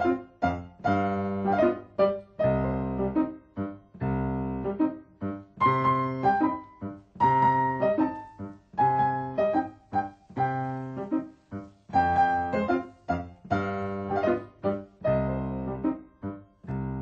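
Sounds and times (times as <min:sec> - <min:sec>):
piano duet playing a tango: 0:00.0 - 0:17.0.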